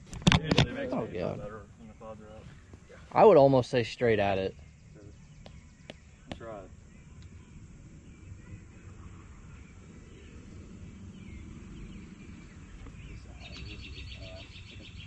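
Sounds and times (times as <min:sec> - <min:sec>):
faint bird chirps: 0:01.4 - 0:15.0.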